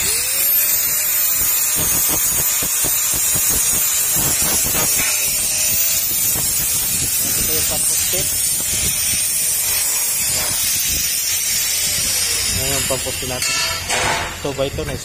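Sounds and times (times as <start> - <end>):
angle grinder motor whine: 0.0 - 15.0
disc cutting steel hiss: 0.0 - 15.0.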